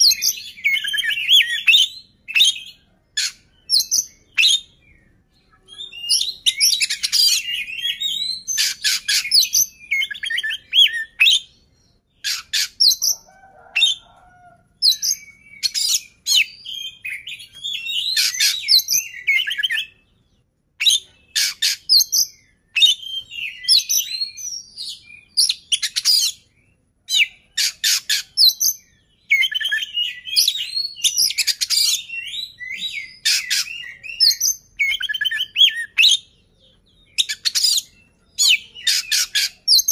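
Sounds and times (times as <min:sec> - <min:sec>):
bird singing with clicks and warbles: 0:00.0 - 0:39.9.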